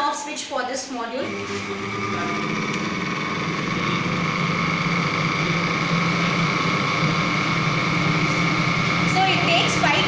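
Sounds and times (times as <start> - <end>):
small cooling fans whirring: 0.9 - 10.0.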